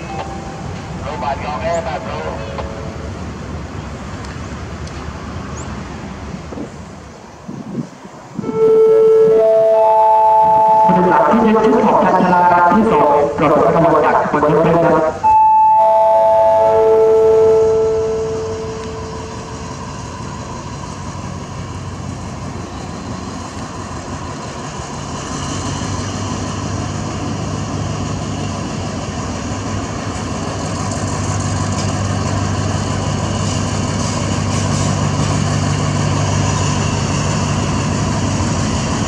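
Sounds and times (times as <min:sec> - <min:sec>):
locomotive engine hum: 0:00.0 - 0:39.0.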